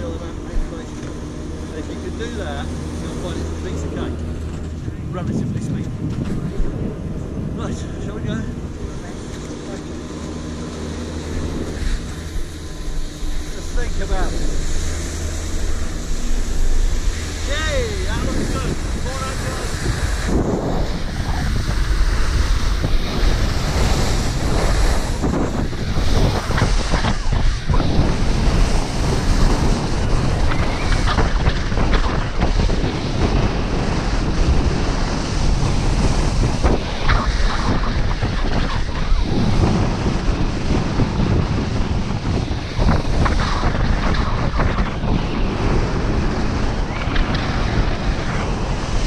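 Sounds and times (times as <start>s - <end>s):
wind rushing over microphone: 0.0s - 49.0s
skis carving on snow: 8.9s - 49.0s.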